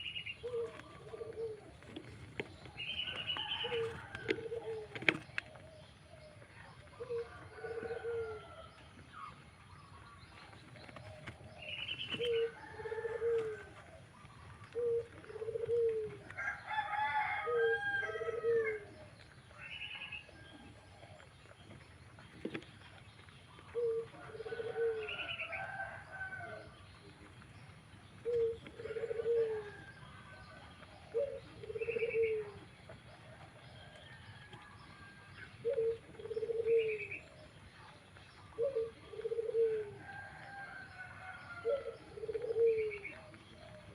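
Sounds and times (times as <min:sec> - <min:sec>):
pigeon cooing: 0:00.0 - 0:27.4, 0:28.0 - 0:43.9.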